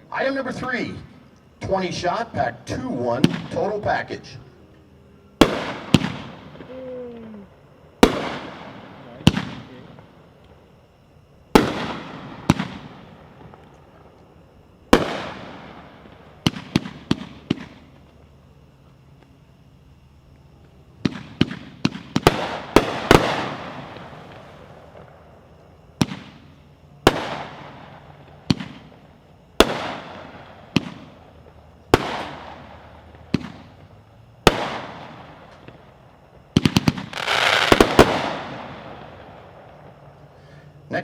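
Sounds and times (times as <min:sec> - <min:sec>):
fireworks crackling: 0:00.0 - 0:04.8, 0:05.4 - 0:10.6, 0:11.4 - 0:18.4, 0:20.3 - 0:41.0
fireworks bangs: 0:00.1 - 0:04.4, 0:05.4 - 0:07.3, 0:07.9 - 0:10.6, 0:11.4 - 0:14.1, 0:14.8 - 0:18.0, 0:21.0 - 0:40.6.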